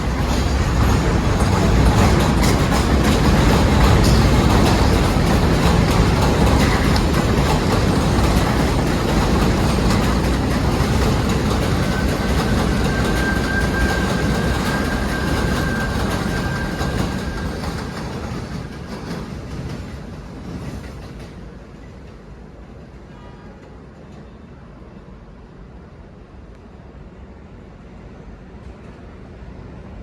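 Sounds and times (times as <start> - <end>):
subway train rumbling on tracks: 0.0 - 30.0.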